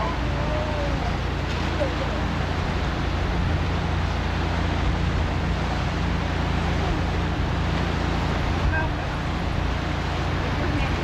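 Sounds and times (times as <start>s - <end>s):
boat engine drone: 0.0s - 11.0s
wind noise on microphone: 0.0s - 11.0s.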